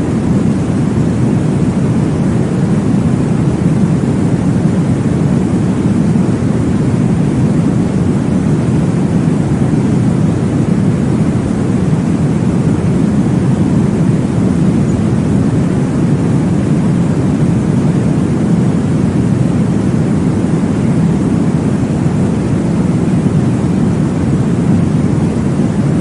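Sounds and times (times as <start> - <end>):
deep whooshing white noise: 0.0 - 26.0.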